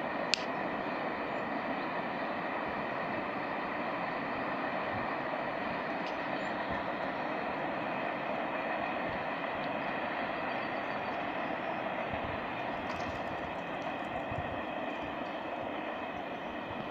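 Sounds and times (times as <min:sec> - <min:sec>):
train wheels on track: 0:00.0 - 0:16.9.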